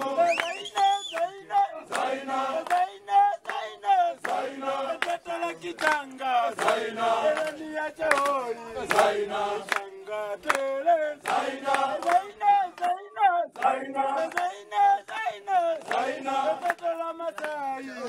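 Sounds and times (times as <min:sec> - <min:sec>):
hand claps: 0:00.0 - 0:17.9
men singing and chanting: 0:00.0 - 0:18.0.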